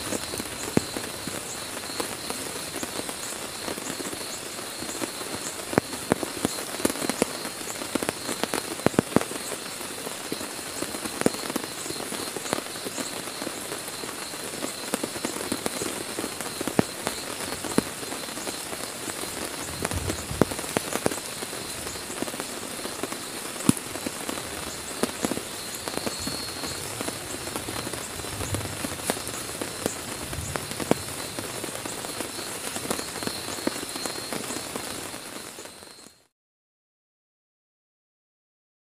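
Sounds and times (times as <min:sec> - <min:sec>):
heavy rain on a tent: 0:00.0 - 0:36.3.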